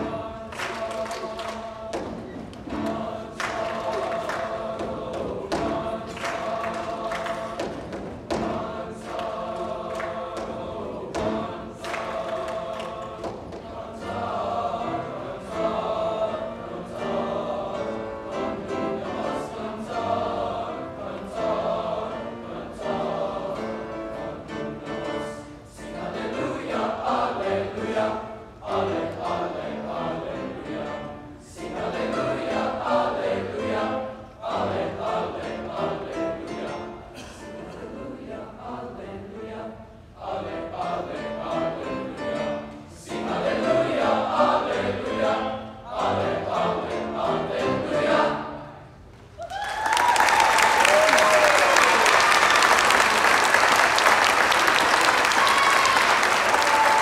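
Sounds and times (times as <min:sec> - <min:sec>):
children's choir singing: 0:00.0 - 0:49.0.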